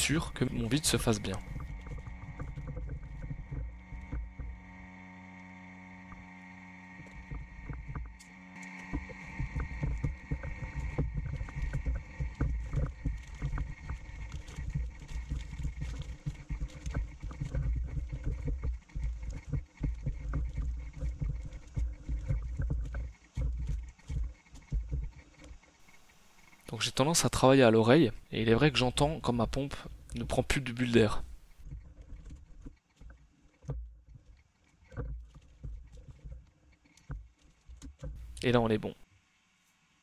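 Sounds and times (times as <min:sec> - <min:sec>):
vacuum pump humming: 0:00.0 - 0:32.6.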